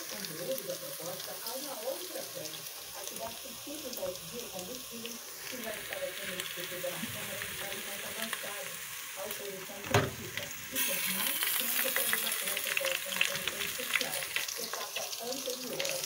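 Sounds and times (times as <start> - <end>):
sausage sizzling in a pot: 0.0 - 16.0.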